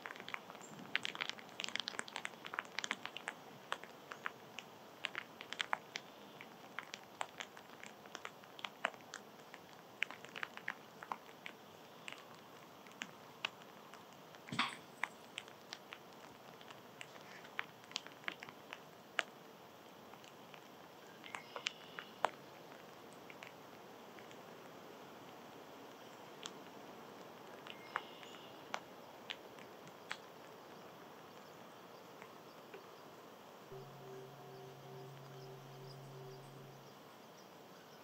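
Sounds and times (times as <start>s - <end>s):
small animal eating seed: 0.0s - 38.0s.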